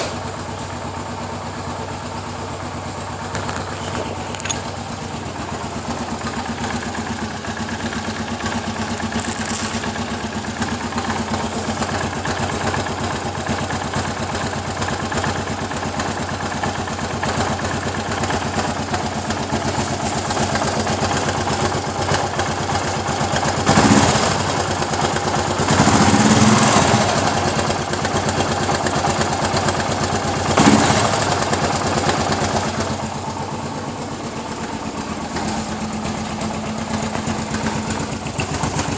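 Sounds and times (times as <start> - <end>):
engine knocking: 0.0 - 38.9
motorcycle engine idling: 0.0 - 38.9.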